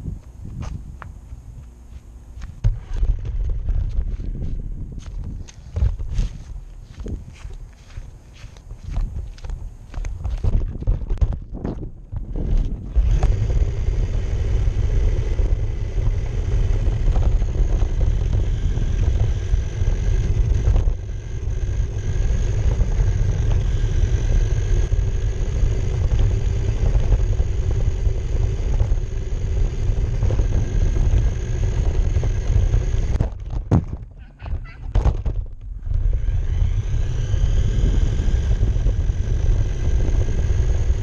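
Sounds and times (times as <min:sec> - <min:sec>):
faint high drive whine: 0:00.0 - 0:41.0
toy car tyres rumbling on asphalt: 0:02.4 - 0:41.0.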